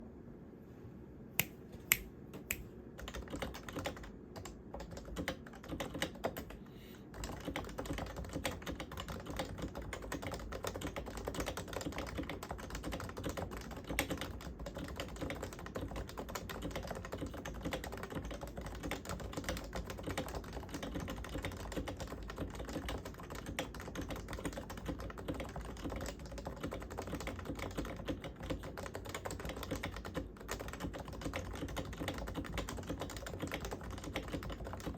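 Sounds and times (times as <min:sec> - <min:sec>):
keyboard typing: 0:01.4 - 0:34.9.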